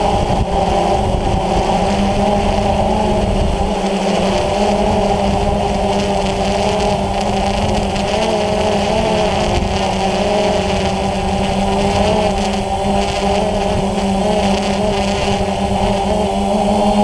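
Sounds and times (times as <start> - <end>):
drone motors humming: 0.0 - 17.0
wind rumble on microphone: 0.0 - 17.0.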